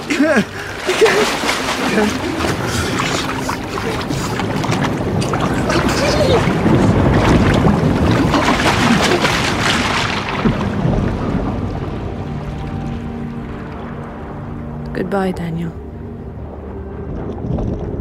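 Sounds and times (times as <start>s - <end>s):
swamp water splashing and sloshing: 0.0s - 15.0s.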